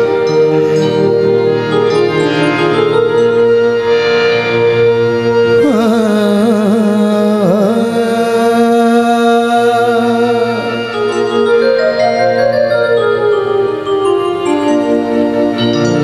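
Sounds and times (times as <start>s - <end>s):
harmonium chords: 0.0s - 16.0s.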